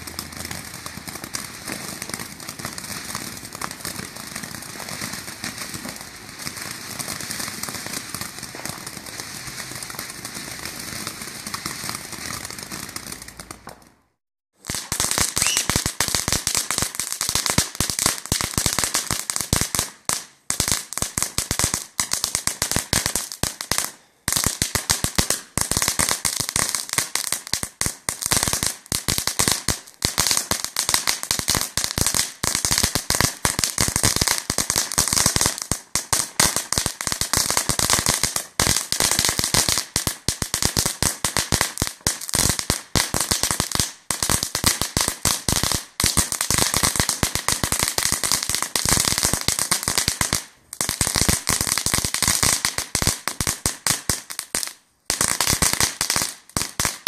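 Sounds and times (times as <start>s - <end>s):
firework crackling: 0.0s - 57.0s.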